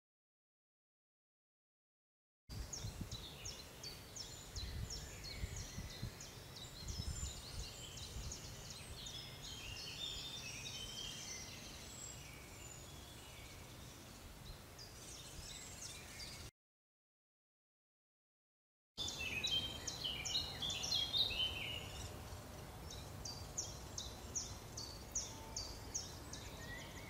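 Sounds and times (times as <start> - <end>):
birds chirping: 2.5 - 16.5, 19.0 - 27.0.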